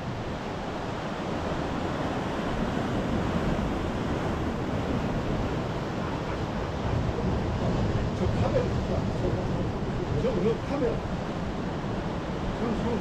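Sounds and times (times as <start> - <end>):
ocean waves breaking on rocks: 0.0 - 13.0
wind gusting on microphone: 0.0 - 13.0.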